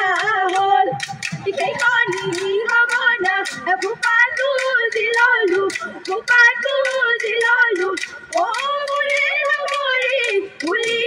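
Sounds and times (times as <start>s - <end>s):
quick beat of sharp strikes: 0.0s - 11.0s
women singing in unison: 0.0s - 11.0s.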